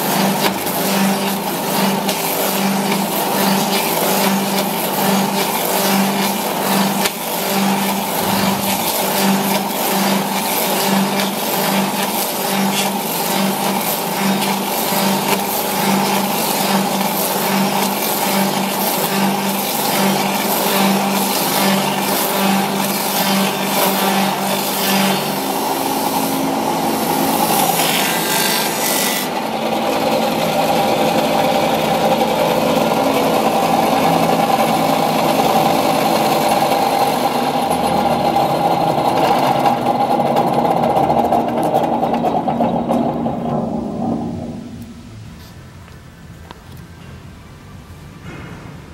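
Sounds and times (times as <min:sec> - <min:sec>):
machine running hum: 0:00.0 - 0:46.6.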